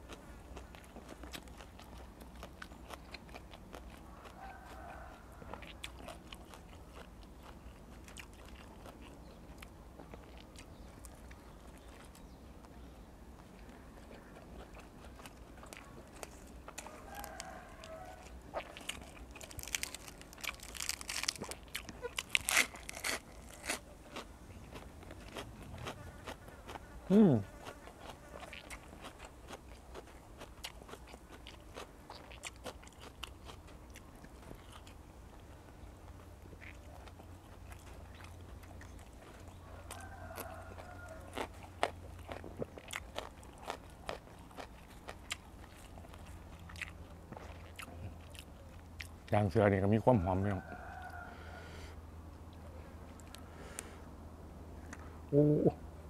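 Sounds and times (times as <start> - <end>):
chewing crunchy vegetables: 0.0 - 51.2.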